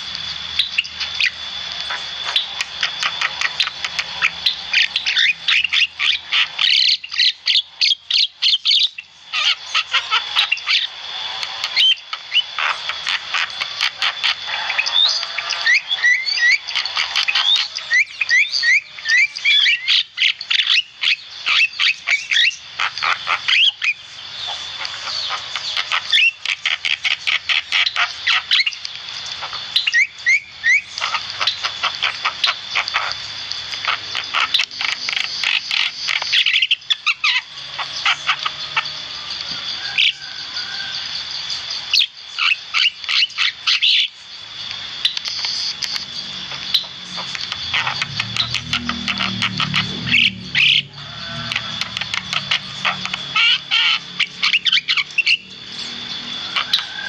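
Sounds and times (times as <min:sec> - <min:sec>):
myna chattering and whistling: 0:00.0 - 0:57.0.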